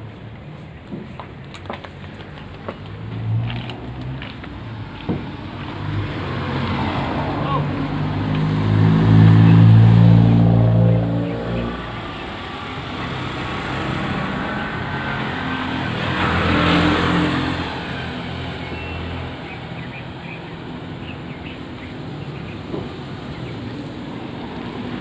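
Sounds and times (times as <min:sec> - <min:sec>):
vehicle passing by: 0:02.5 - 0:25.0.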